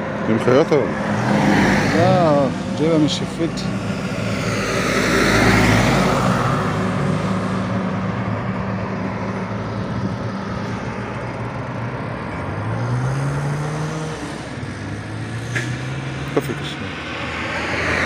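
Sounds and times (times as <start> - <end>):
low engine hum: 0.0 - 18.0
vehicle passing close by: 0.0 - 18.0.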